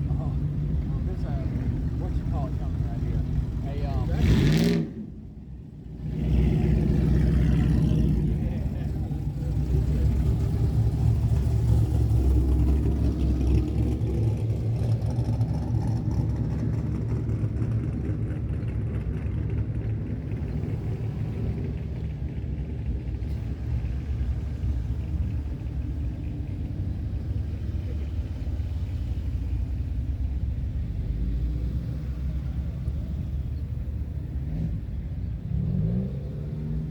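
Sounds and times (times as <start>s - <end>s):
car engine rumbling: 0.0s - 36.9s.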